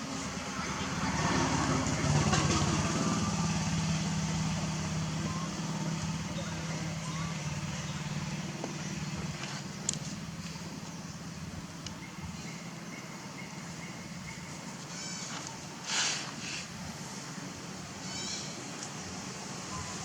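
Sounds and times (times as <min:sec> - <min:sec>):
outdoor background noise: 0:00.0 - 0:20.0
vehicle engine humming: 0:00.0 - 0:20.0.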